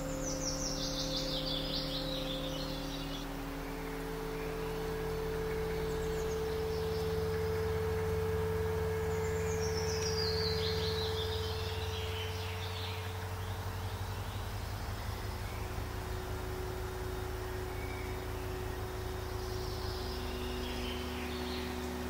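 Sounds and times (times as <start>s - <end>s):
ambient drone of low tones: 0.0s - 22.0s.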